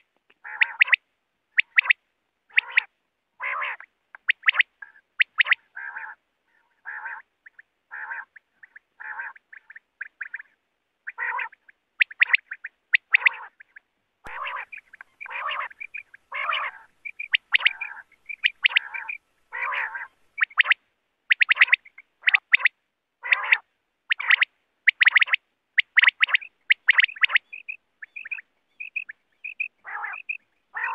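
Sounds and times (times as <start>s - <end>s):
quail calling: 0.0s - 30.9s.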